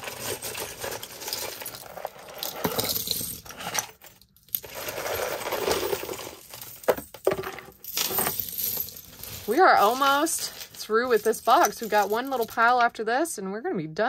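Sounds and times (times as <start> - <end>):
metal jewelry clinking and jangling: 0.0 - 12.9.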